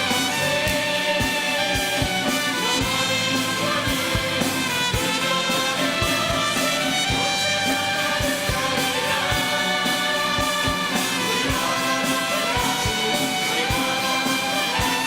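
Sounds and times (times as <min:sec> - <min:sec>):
orchestral music with brass: 0:00.0 - 0:15.0.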